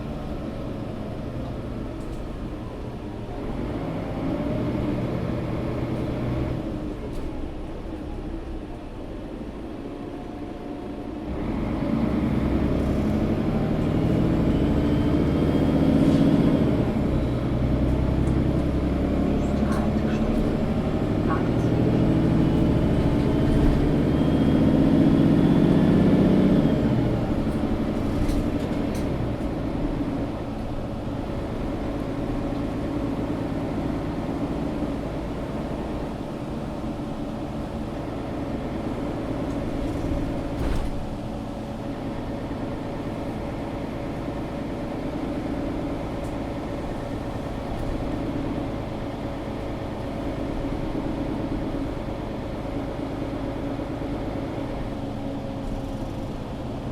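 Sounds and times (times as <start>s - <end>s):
bus engine droning: 0.0s - 56.9s.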